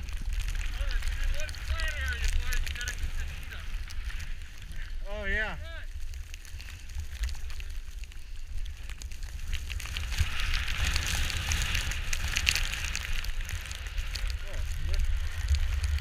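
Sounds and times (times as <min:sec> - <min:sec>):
ski edges scraping on snow: 0:00.0 - 0:16.0
wind rumbling over microphone: 0:00.0 - 0:16.0.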